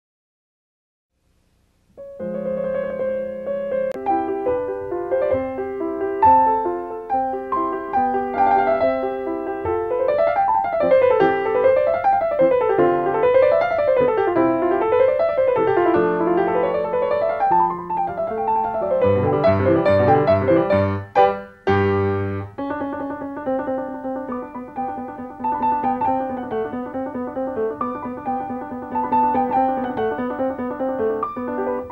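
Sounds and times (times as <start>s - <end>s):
piano music: 2.0s - 31.9s.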